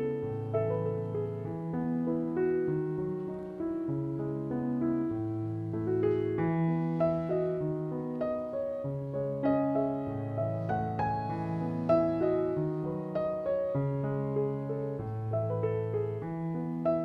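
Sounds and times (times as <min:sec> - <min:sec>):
soft piano melody: 0:00.0 - 0:17.0.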